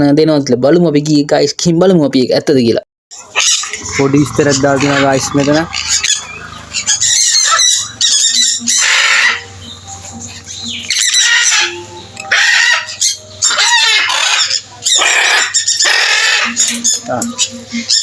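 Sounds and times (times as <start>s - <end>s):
birds squawking: 3.2s - 18.0s.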